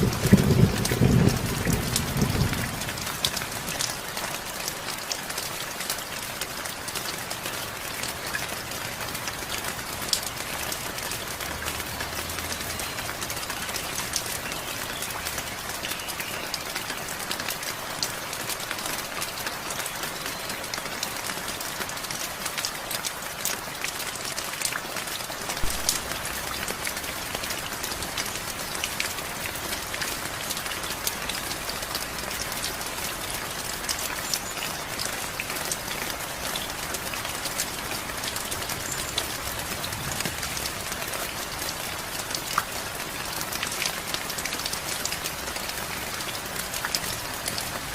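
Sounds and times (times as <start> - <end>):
rain drops pattering: 0.0 - 47.9.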